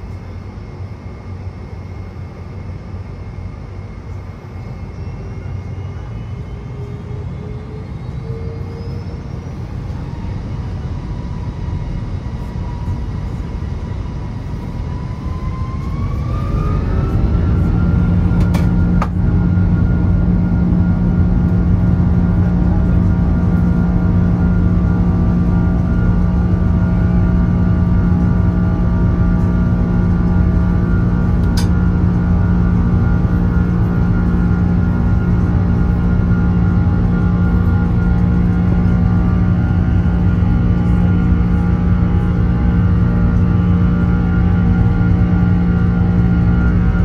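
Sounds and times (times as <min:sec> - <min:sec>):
jet engines whining in cabin: 0:00.0 - 0:47.0.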